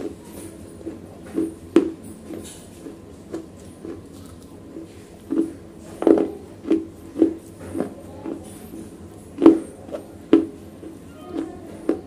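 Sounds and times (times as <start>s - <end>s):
wet crunchy chewing: 0.0s - 12.0s.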